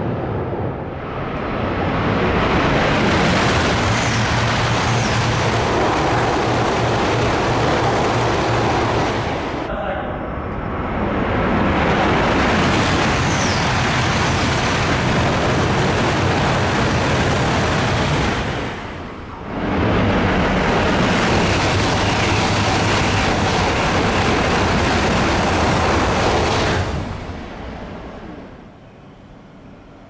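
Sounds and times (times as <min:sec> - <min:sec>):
high-speed train passing: 0:00.0 - 0:30.0.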